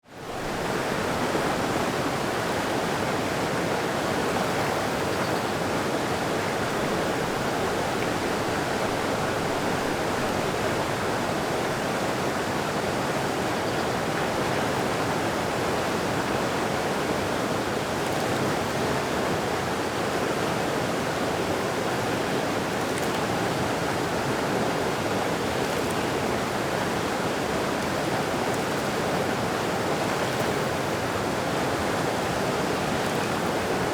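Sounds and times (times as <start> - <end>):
creek water rushing: 0.1 - 33.9.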